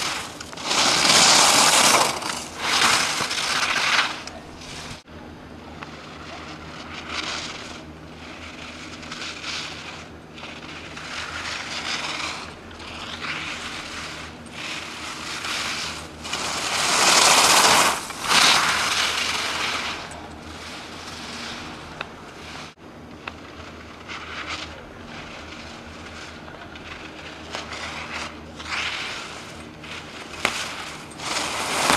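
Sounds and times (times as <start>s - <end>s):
skis scraping on hard snow: 0.0s - 5.0s, 5.8s - 31.9s.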